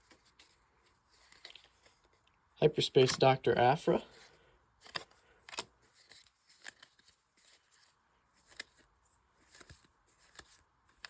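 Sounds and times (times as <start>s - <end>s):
trading cards sliding and flipping: 0.0s - 11.0s.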